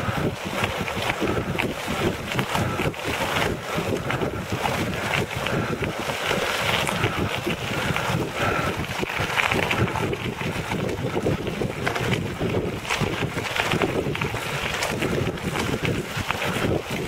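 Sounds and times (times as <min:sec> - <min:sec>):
bike tyres crunching on gravel: 0:00.0 - 0:17.0
wind buffeting microphone: 0:00.0 - 0:17.0.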